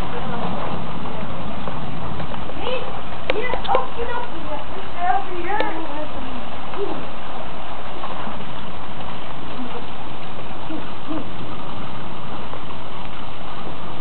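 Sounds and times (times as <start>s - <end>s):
heavy rain pouring: 0.0s - 14.0s
wind: 0.0s - 14.0s.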